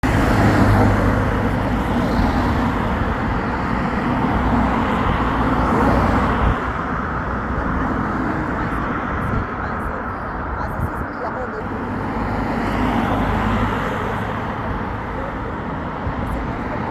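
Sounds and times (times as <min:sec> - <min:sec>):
car engine hum: 0:00.0 - 0:16.9
road noise: 0:00.0 - 0:16.9.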